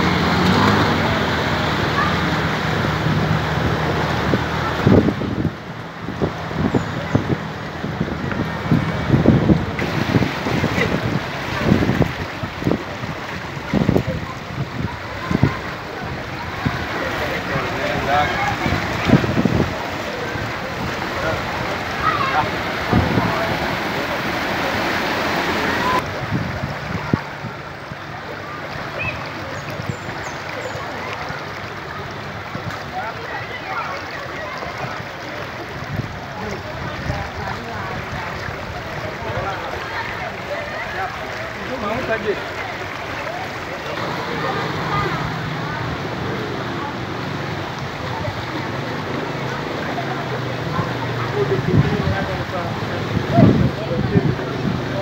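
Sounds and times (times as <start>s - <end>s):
floodwater rushing: 0.0s - 55.0s
wind buffeting microphone: 2.7s - 28.5s, 32.0s - 46.2s, 47.2s - 55.0s.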